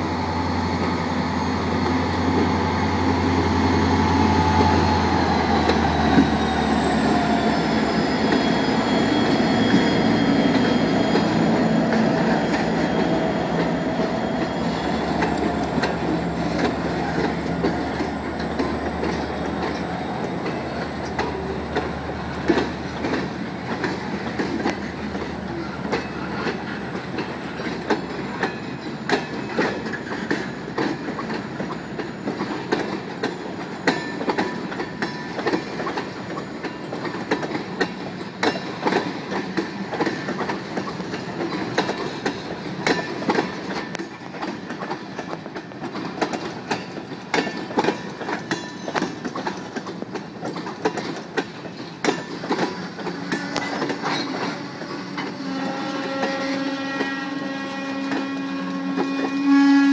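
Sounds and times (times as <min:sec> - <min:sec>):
steel wheels rumbling on rail: 0:00.0 - 0:59.9
wheels clacking over rail joints: 0:04.1 - 0:59.9.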